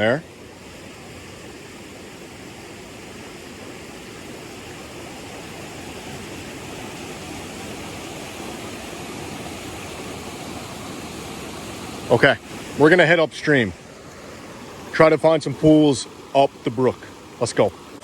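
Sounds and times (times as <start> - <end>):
brook water rushing over rocks: 0.0 - 18.0.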